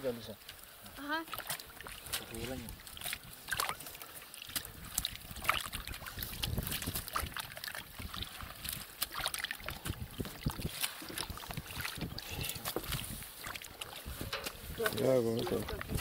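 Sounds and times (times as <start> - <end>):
water sloshing in metal basin: 0.0 - 16.0.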